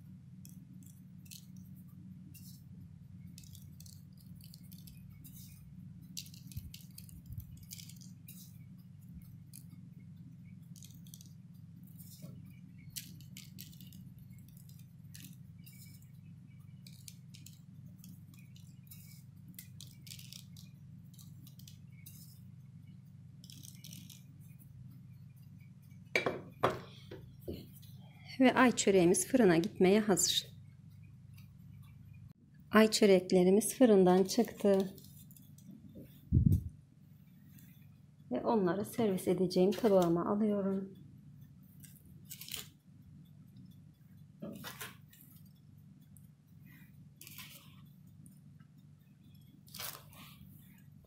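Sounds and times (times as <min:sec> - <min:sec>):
seeds ticking on dough: 0:00.0 - 0:26.2, 0:32.9 - 0:36.8, 0:37.5 - 0:51.0
steady low hum: 0:00.0 - 0:51.0.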